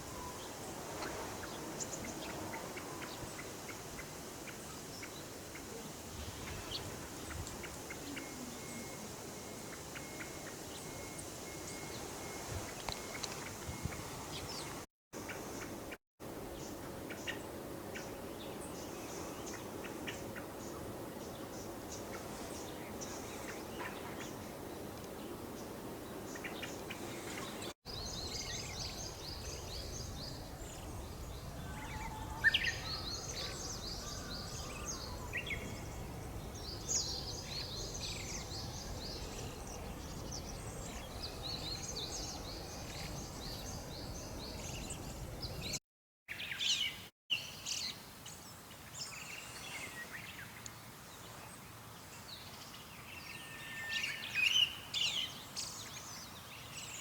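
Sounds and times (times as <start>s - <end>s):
songbirds singing: 0.0s - 15.9s, 16.5s - 57.0s.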